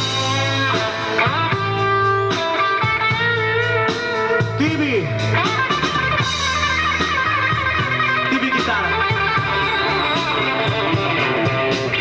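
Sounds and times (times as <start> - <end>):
electric guitar: 0.0 - 12.0
live rock band playing: 0.0 - 12.0.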